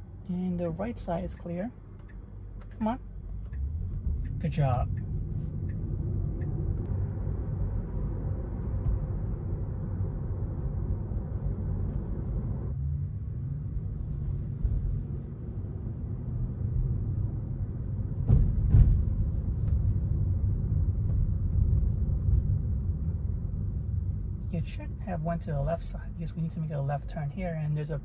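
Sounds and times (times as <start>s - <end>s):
road and tyre rumble: 0.0s - 28.0s.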